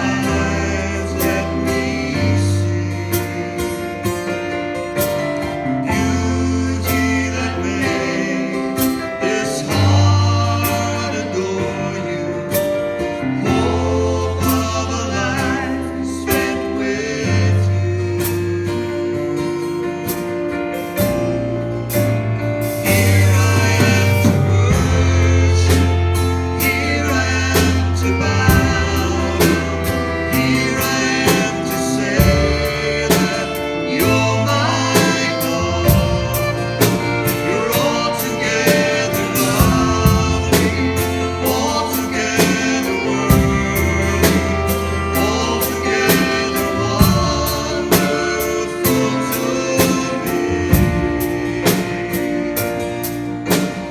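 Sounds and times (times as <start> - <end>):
band with bass and drums: 0.0 - 53.9
worship song singing: 0.0 - 53.9.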